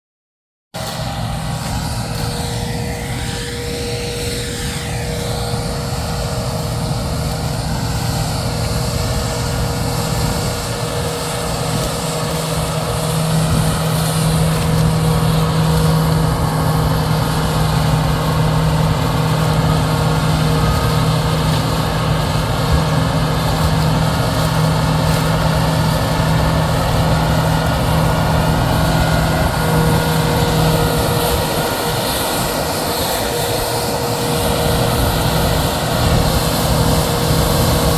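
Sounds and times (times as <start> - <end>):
combine harvester running: 0.8 - 37.9.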